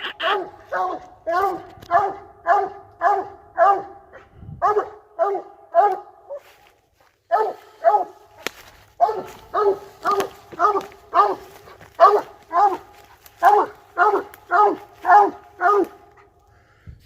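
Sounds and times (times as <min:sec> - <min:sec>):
hound barking: 0:00.1 - 0:06.6, 0:07.2 - 0:16.4.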